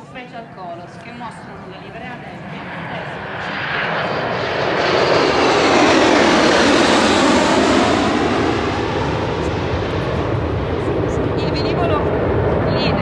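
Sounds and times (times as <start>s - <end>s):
jets passing overhead: 0.0s - 13.0s.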